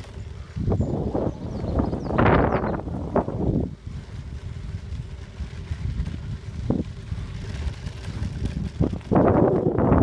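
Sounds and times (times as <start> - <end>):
bicycle tyres rolling on gravel: 0.0 - 10.0
wind buffeting microphone: 0.0 - 10.0.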